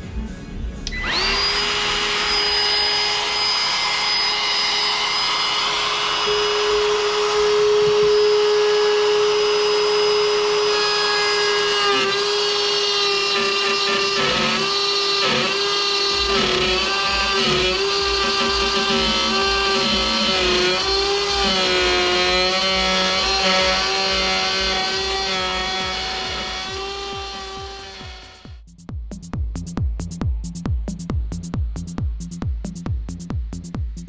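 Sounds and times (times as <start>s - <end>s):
router cutting metal: 0.9s - 28.6s
router whining: 0.9s - 28.6s.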